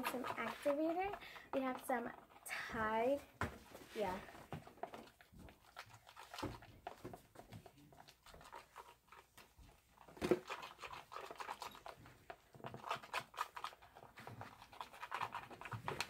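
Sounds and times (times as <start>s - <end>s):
spoons stirring sticky slime: 0.0s - 16.0s.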